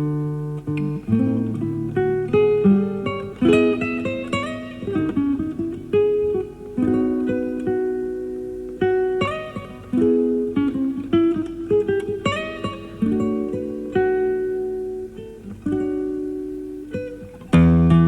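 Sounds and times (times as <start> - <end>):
solo classical guitar: 0.0 - 18.0.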